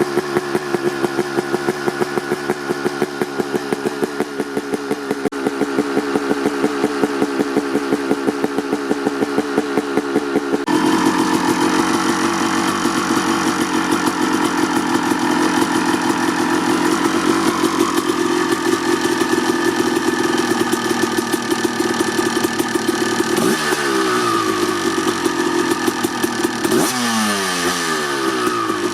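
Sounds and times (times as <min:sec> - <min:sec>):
two-stroke engine running: 0:00.0 - 0:28.9.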